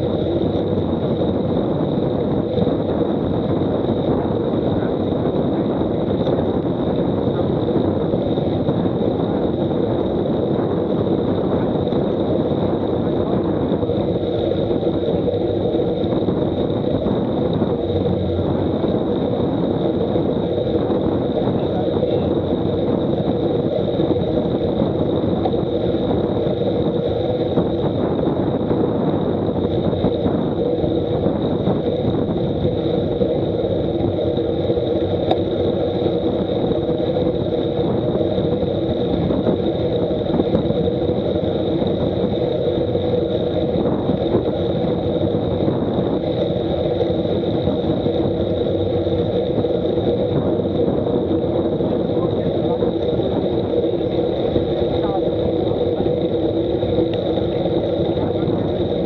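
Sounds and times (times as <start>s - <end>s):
bicycle road noise: 0.0s - 59.0s
wind noise: 0.0s - 59.0s.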